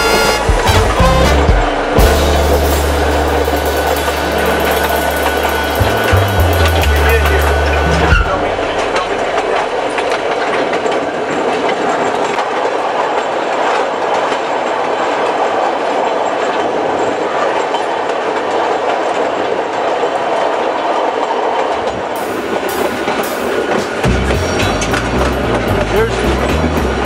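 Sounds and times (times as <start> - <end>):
train wheels rumbling on rails: 0.0 - 27.0
wheels clacking over rail joints: 0.0 - 27.0.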